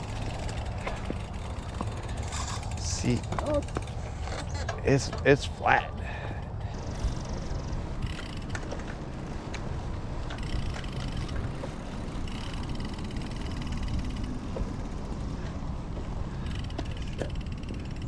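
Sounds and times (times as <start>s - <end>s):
bicycle road noise: 0.0s - 18.0s
wind rumble on microphone: 0.0s - 18.0s.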